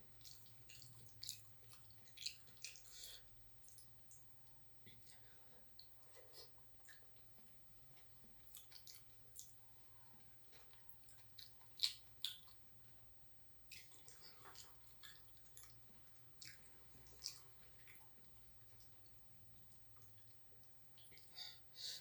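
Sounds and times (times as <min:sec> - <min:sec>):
wet chewing: 0:00.1 - 0:04.3, 0:05.8 - 0:12.7, 0:13.7 - 0:21.3
lip smacks and mouth clicks: 0:00.1 - 0:05.2, 0:05.8 - 0:09.6, 0:10.2 - 0:12.7, 0:13.7 - 0:21.3.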